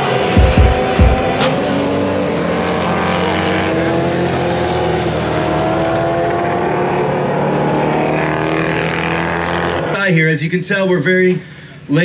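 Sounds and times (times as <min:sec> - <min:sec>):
motorcycle engines running: 0:00.0 - 0:09.9.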